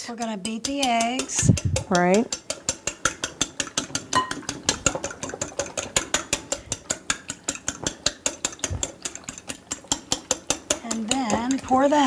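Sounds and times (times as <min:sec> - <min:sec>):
fork beating eggs in bowl: 0:00.0 - 0:12.0.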